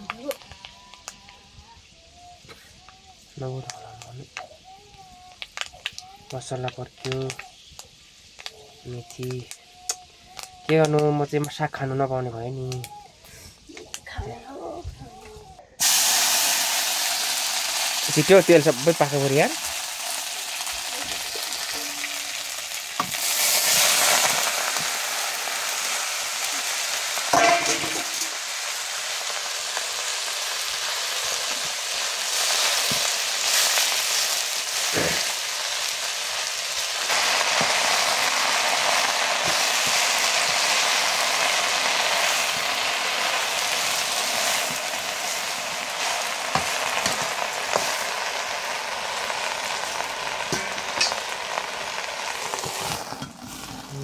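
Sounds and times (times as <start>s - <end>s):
food sizzling in a hot pan: 0.0s - 54.0s.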